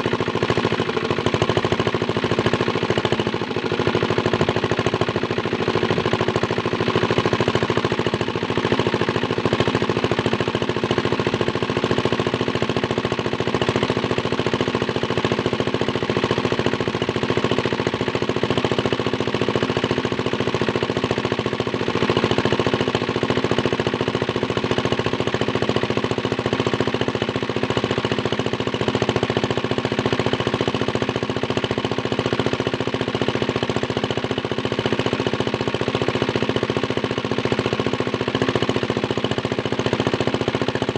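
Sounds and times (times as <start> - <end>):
small diesel engine knocking: 0.0 - 40.9.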